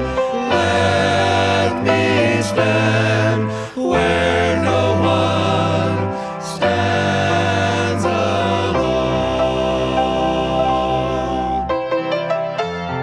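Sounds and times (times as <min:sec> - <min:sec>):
vocal group singing in harmony: 0:00.0 - 0:11.9.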